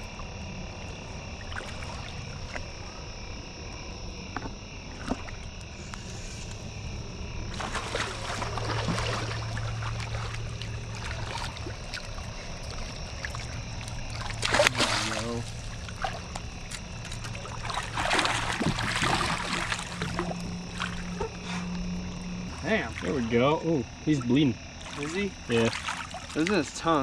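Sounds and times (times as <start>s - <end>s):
low hum: 0.0s - 26.3s
water sloshing and splashing: 0.0s - 27.0s.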